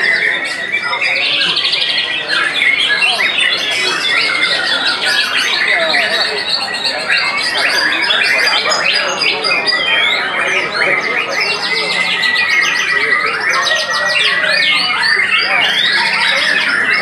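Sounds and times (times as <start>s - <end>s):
many birds singing: 0.0s - 17.0s.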